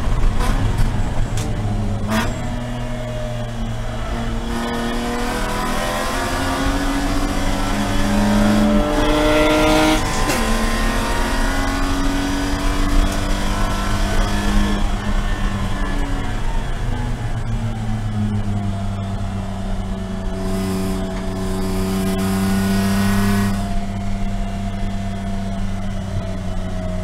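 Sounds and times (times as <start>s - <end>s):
race car engine accelerating: 0.0s - 27.0s.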